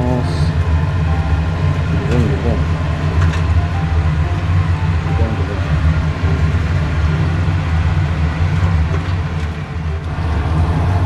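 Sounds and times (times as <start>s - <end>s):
range hood fan running: 0.0s - 11.0s.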